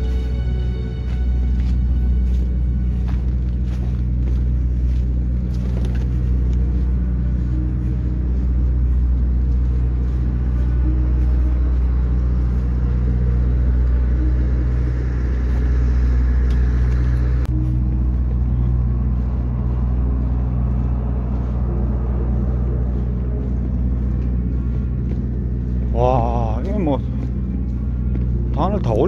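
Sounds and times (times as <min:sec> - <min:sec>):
construction machinery engine drone: 0:00.0 - 0:29.0.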